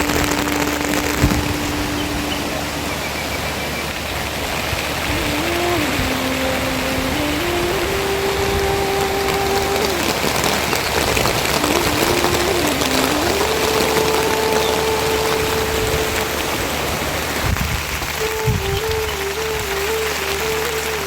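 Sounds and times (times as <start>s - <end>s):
rain falling: 0.0s - 21.0s
slow melody of held notes: 0.0s - 21.0s.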